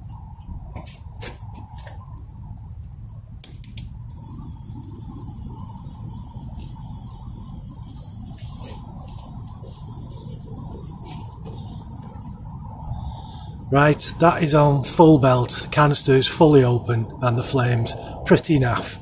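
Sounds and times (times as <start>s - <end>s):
gas burner hissing: 3.4s - 19.0s.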